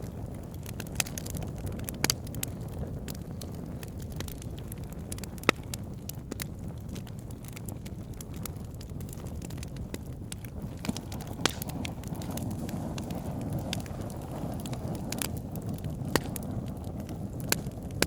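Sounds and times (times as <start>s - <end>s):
burning wood popping: 0.0s - 18.0s
campfire crackling: 0.0s - 18.0s.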